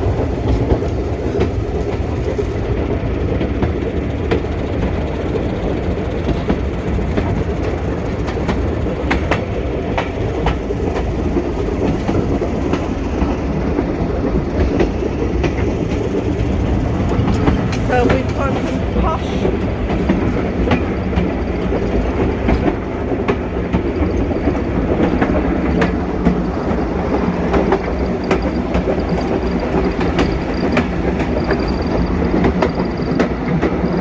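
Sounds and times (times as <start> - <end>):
railway carriage rumble: 0.0 - 34.0
wheels clicking over rail joints: 0.0 - 34.0.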